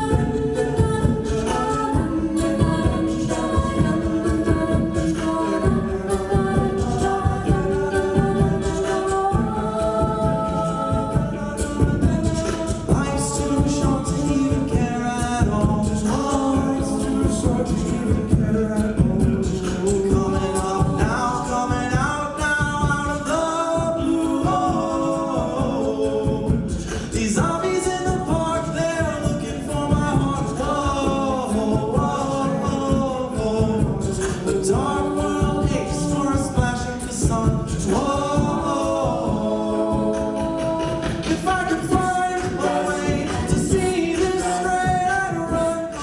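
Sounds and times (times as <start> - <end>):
a cappella group singing in harmony: 0.0 - 46.0.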